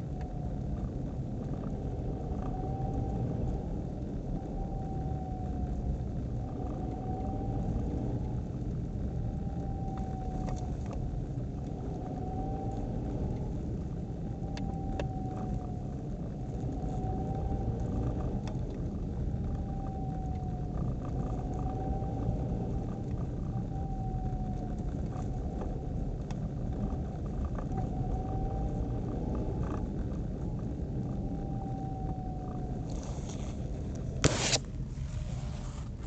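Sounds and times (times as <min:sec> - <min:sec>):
car road and engine rumble: 0:00.0 - 0:36.0
transmission whine: 0:00.0 - 0:36.0.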